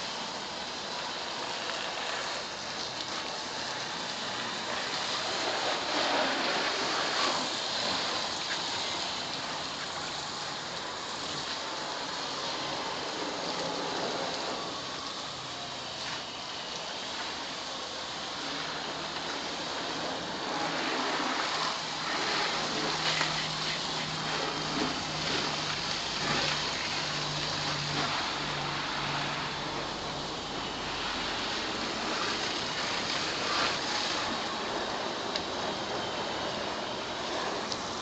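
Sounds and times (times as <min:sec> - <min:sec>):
water jet spraying car: 0:00.0 - 0:38.0.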